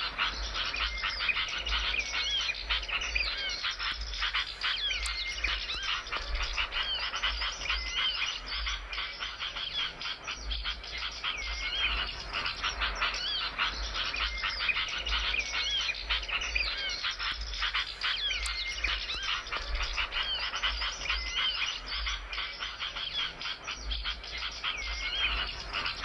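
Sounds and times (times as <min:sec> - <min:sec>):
songbird twittering: 0:00.0 - 0:26.0.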